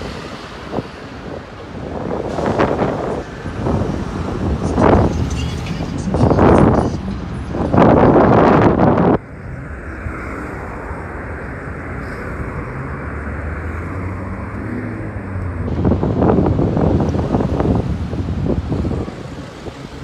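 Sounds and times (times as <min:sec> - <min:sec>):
street traffic: 0:00.0 - 0:20.0
wind buffeting microphone: 0:00.0 - 0:20.0.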